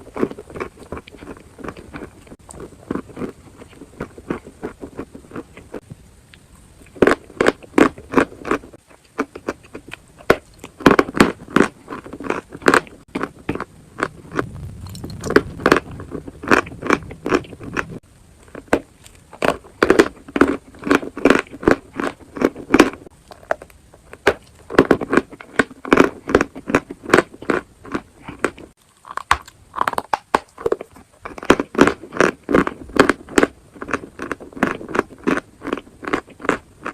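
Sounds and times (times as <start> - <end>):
chewing dry chalk crunches: 0.0 - 36.9.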